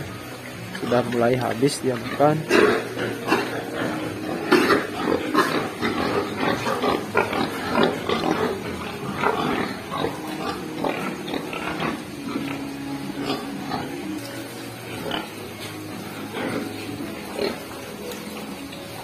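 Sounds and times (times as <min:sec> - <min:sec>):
pigs chewing and rooting: 0:00.0 - 0:19.0.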